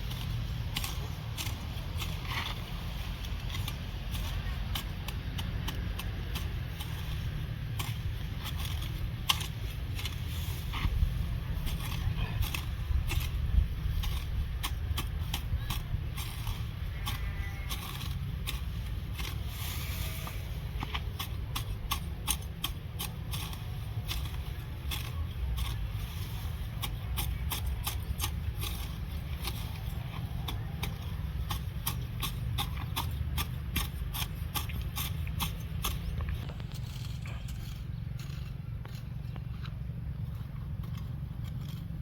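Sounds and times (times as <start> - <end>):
grass snipping by hand: 0.0 - 42.0
low steady rumble: 0.0 - 42.0.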